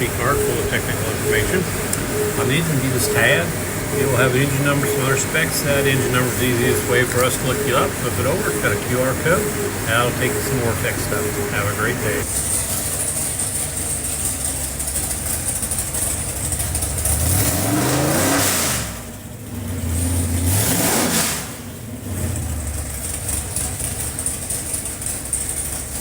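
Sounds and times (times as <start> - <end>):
engine running and revving: 0.0 - 26.0.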